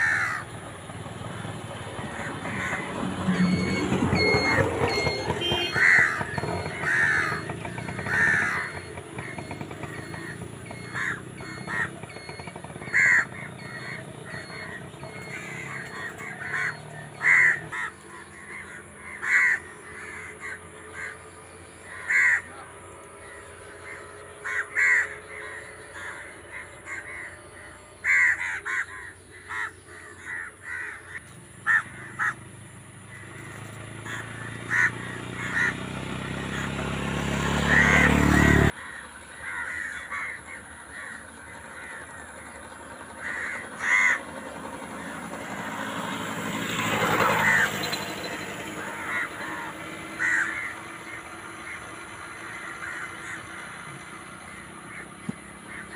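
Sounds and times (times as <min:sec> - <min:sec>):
crows cawing: 0:00.0 - 0:01.0, 0:01.6 - 0:55.9.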